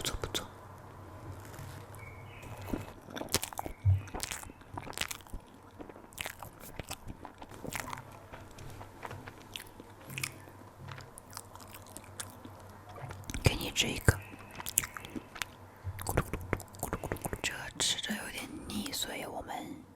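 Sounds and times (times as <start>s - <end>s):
mouth clicks: 0.0s - 0.6s, 2.0s - 10.6s, 11.2s - 18.1s
soft crunches of pastry: 0.1s - 17.8s
chewing and biting pastry: 1.2s - 17.5s.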